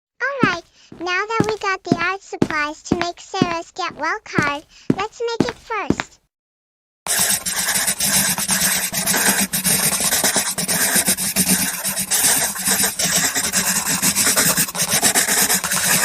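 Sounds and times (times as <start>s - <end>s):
pencil scribbling on paper: 0.3s - 6.1s, 7.1s - 16.0s.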